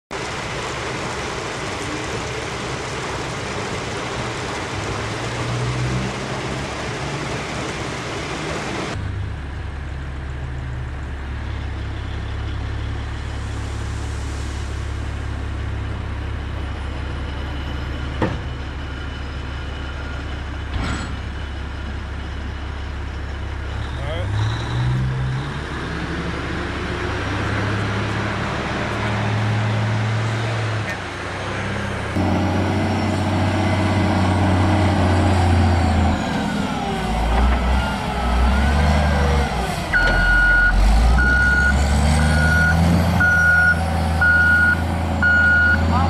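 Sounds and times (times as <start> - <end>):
diesel engine droning: 0.1 - 46.0.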